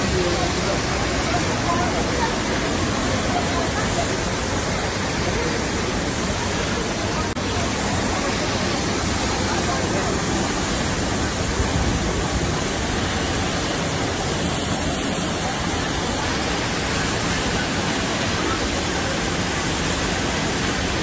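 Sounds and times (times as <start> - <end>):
fast river rapids: 0.0 - 21.0
waterfall rushing: 0.0 - 21.0.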